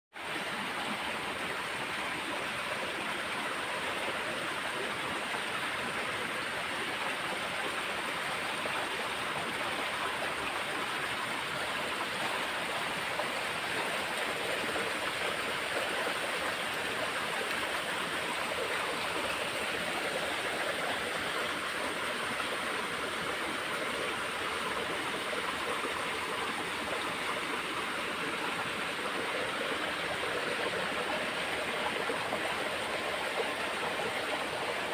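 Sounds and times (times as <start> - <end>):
running water rushing: 0.2 - 34.9.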